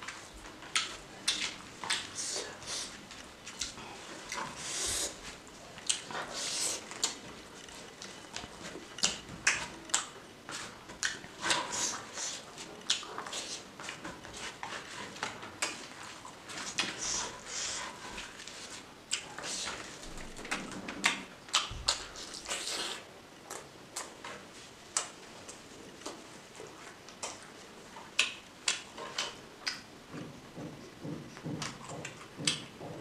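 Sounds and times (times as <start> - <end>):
soft hissy rustles: 0.0 - 28.1
person chewing with mouth smacks: 0.0 - 33.0.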